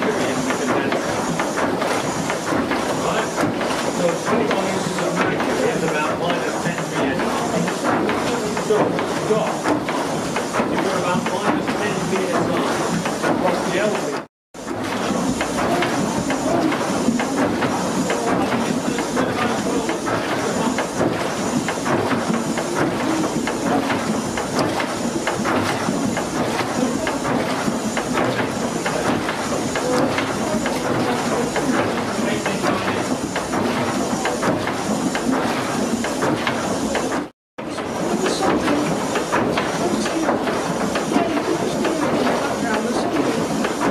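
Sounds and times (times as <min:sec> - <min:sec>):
steam engine running: 0:00.0 - 0:43.9
water churning and splashing: 0:00.0 - 0:43.9.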